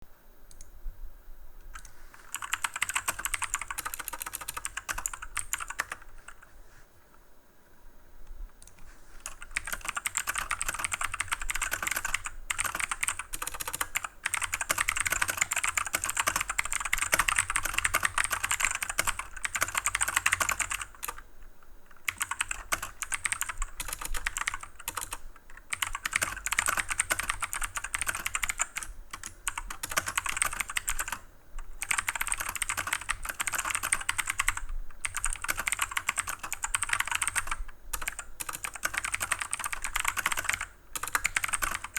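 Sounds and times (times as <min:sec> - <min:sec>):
clicky mechanical keyboard typing: 0:01.7 - 0:06.5, 0:08.6 - 0:21.2, 0:21.9 - 0:41.9.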